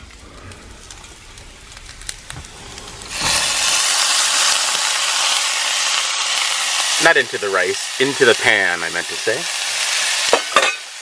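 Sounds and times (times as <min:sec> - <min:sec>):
vegetables sizzling in hot oil: 0:00.8 - 0:11.0.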